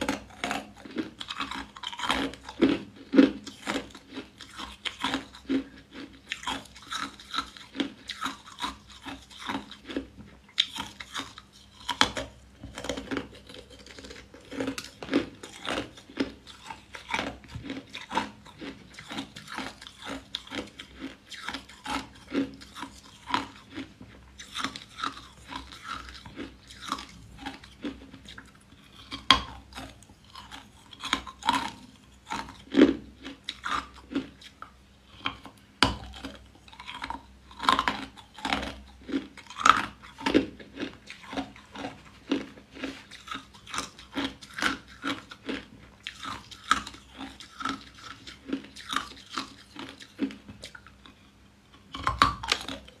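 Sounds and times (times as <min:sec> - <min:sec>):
ice bars being chewed: 0:00.0 - 0:53.0.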